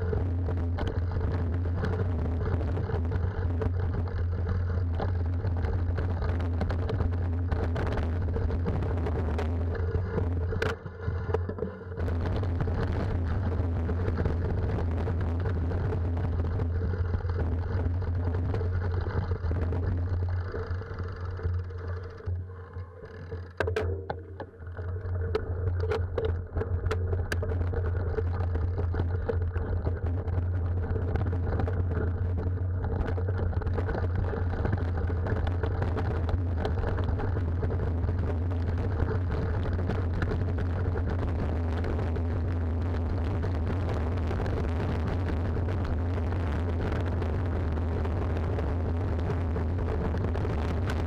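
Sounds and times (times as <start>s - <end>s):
mountain bike rumbling and rattling: 0.0s - 51.0s.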